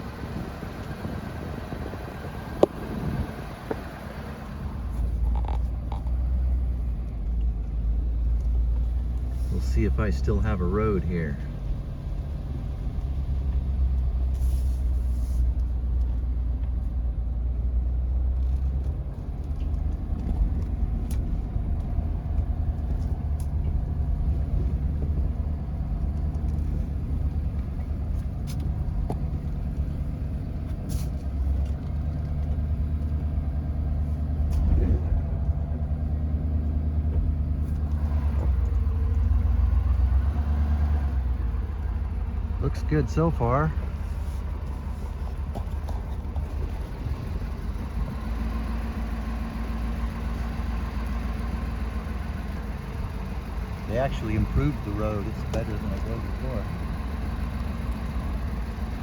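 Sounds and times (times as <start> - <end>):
knocks and rattles over bumps: 0.0 - 14.4, 18.1 - 59.0
car engine and road rumble: 0.0 - 59.0.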